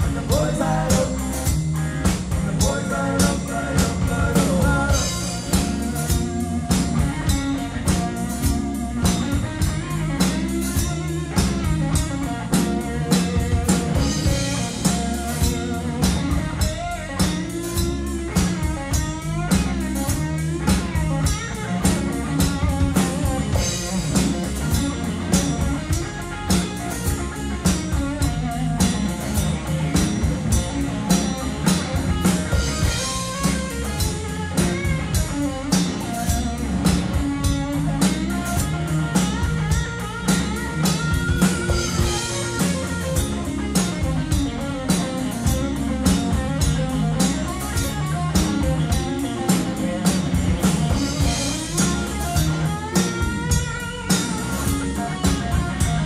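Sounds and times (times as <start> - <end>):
bass guitar: 0.0 - 56.0
drum kit beat: 0.0 - 56.0
electric guitar: 0.0 - 56.0.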